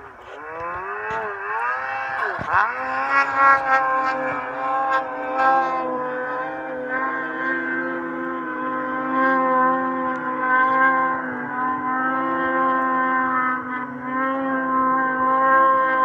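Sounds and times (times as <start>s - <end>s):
snowmobile engine at high revs: 0.0s - 16.0s.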